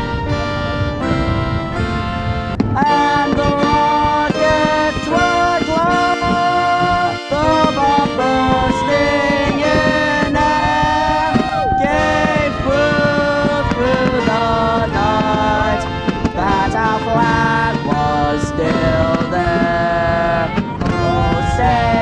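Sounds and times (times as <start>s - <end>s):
music with sliding held notes: 0.0s - 22.0s.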